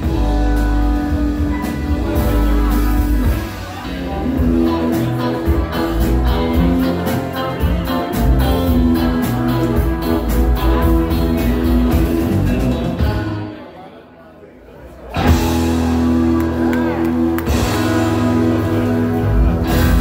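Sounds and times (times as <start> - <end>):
drum kit: 0.0 - 13.5, 15.1 - 20.0
bass guitar: 0.0 - 13.6, 15.1 - 20.0
electric guitar: 0.0 - 13.6, 15.1 - 20.0.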